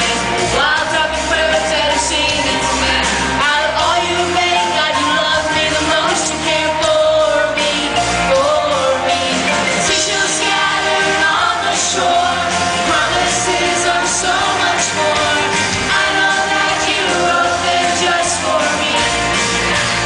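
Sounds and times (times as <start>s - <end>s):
children's choir singing: 0.0s - 20.0s
loud musical accompaniment: 0.0s - 20.0s.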